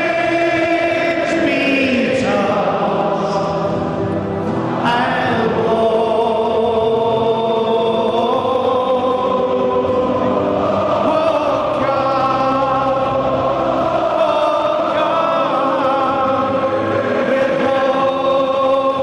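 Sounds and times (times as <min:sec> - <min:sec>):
crowd singing together: 0:00.0 - 0:19.0.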